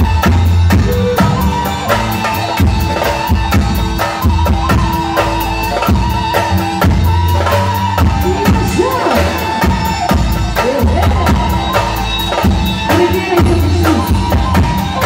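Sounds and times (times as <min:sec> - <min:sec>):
band music through loudspeakers: 0:00.0 - 0:15.0
drum kit beat: 0:00.0 - 0:15.0.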